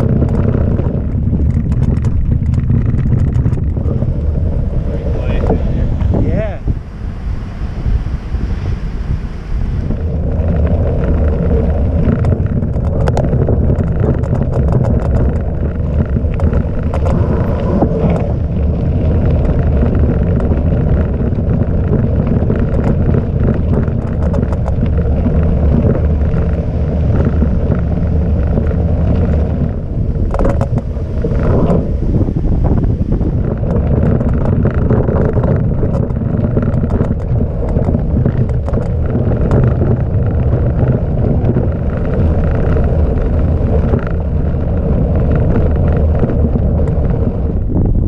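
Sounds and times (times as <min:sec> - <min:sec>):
bike rattling clicks: 0:00.0 - 0:06.2, 0:10.0 - 0:31.9, 0:32.7 - 0:47.6
bike tyres rolling on gravel: 0:00.0 - 0:48.0
wind buffeting microphone: 0:00.0 - 0:48.0.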